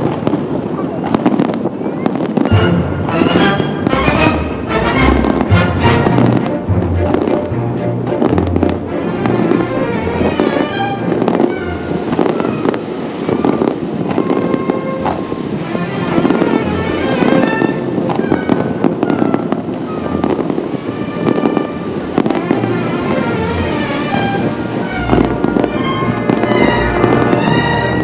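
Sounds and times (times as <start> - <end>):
fireworks bursting and crackling: 0.0 - 28.0
music playing: 2.4 - 28.0.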